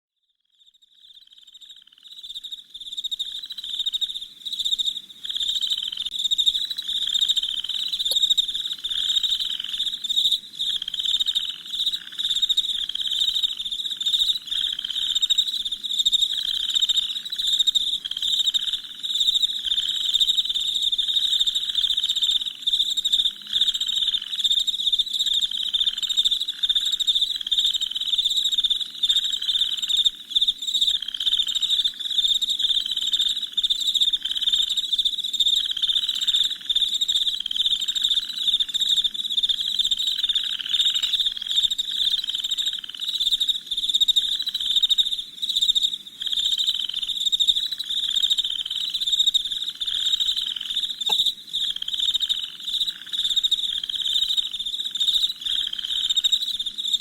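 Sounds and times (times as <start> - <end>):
crickets chirping: 0.5 - 57.0.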